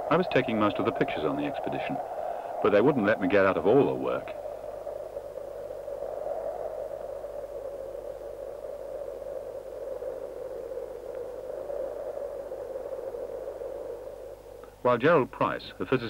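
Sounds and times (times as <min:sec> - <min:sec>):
steady mid-pitched hiss: 0:00.0 - 0:16.0.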